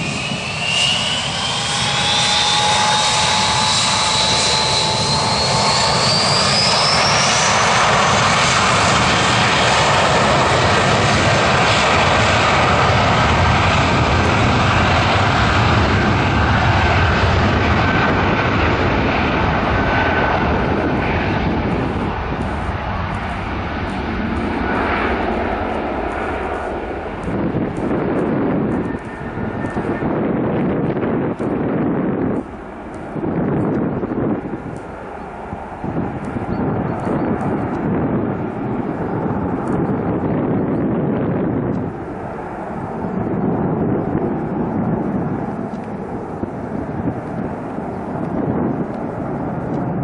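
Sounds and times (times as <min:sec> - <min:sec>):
high engine whine: 0:00.0 - 0:50.0
jet engines at takeoff: 0:00.0 - 0:50.0.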